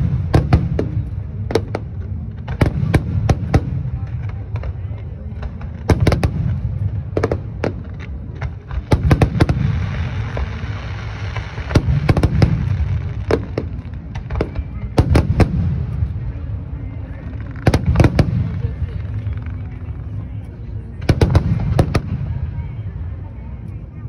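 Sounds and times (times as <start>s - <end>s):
fireworks bangs: 0.0s - 23.2s.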